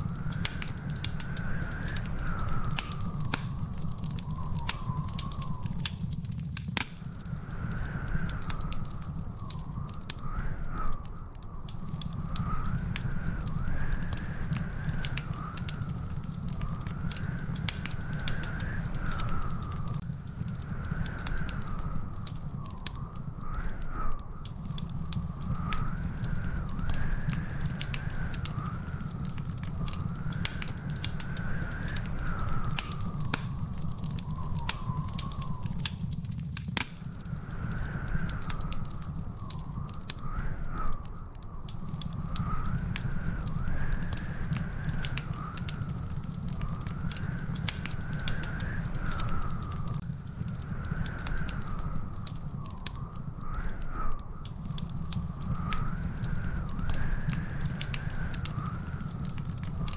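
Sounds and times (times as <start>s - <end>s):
thin whistling tone: 0.0s - 59.9s
wood fire crackling: 0.0s - 59.9s.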